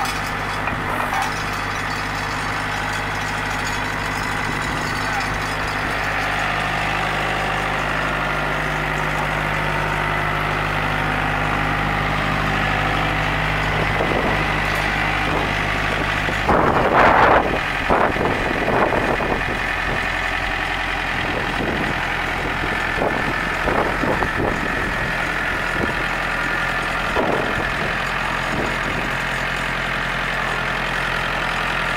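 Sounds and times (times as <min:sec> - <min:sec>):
front loader mechanical noise: 0:00.0 - 0:31.9
tractor diesel engine idling: 0:00.0 - 0:31.9.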